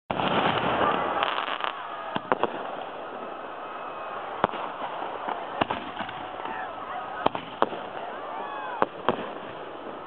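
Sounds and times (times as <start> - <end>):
fireworks bangs: 0.1 - 10.0
noisy fireworks show background: 0.1 - 10.0.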